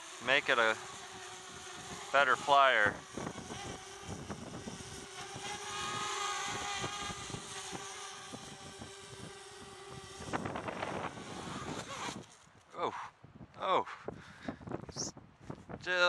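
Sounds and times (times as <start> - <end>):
quadcopter propellers whining: 0.0 - 14.8
wind buffeting microphone: 1.2 - 12.4, 13.2 - 16.0.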